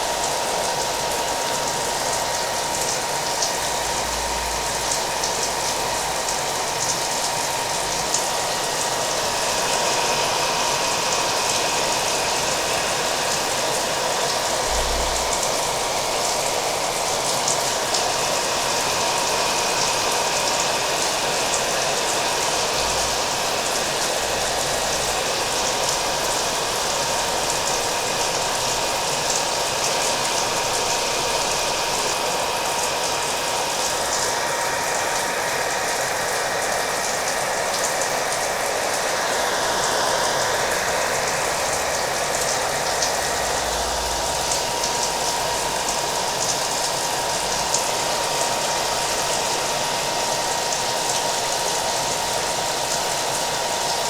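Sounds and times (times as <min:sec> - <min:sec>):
hair dryer blowing: 0:00.0 - 0:54.0
rain: 0:00.0 - 0:54.0.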